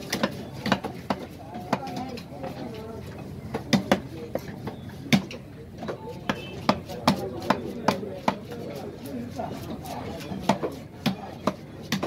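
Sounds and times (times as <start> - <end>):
knife chopping on wooden block: 0.0 - 2.6, 3.5 - 12.0.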